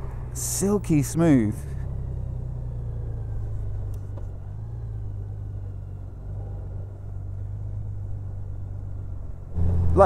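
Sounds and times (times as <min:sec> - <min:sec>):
motorcycle engine running smoothly: 0:00.0 - 0:10.0.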